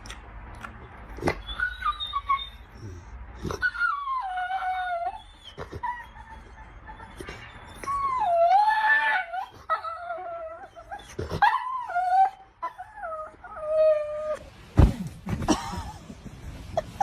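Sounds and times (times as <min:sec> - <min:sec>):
dog whining: 0:01.2 - 0:15.9.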